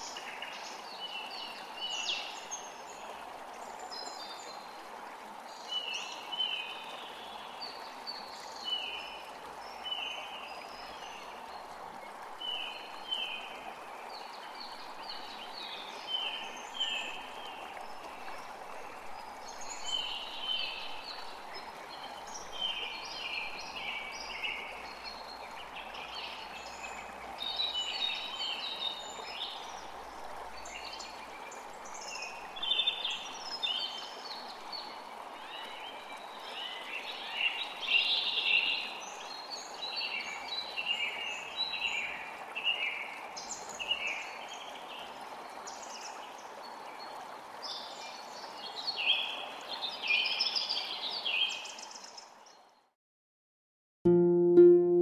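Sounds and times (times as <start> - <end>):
creek rushing: 0.0 - 52.4.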